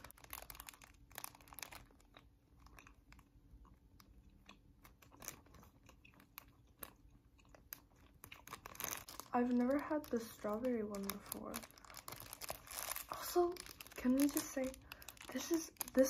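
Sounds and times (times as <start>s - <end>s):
biting and chewing: 0.0s - 16.0s.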